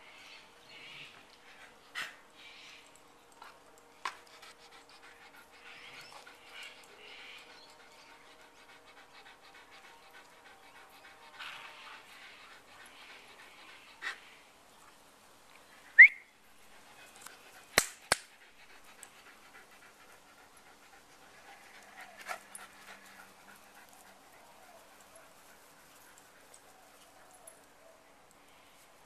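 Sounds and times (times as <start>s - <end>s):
dogs panting: 1.1s - 14.6s, 16.6s - 27.8s.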